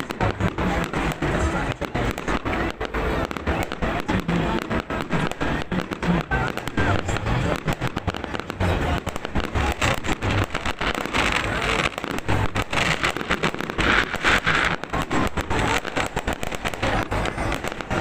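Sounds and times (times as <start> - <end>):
fireworks bangs and cracks: 0.0 - 18.0
hissing crackle of fireworks: 0.0 - 18.0.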